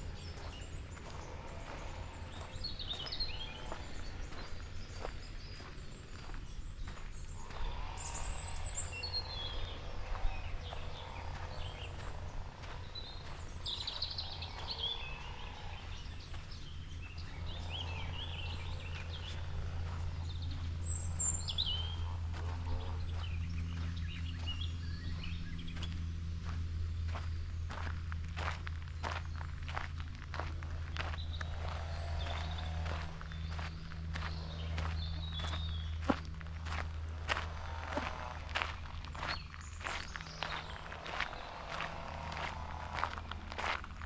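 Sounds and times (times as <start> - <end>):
birds chirping and trilling: 0.0 - 44.0
steady low hum: 0.0 - 44.0.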